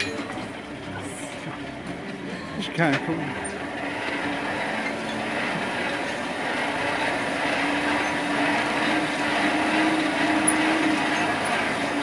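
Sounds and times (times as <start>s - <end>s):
forge air supply rushing: 0.0s - 12.0s.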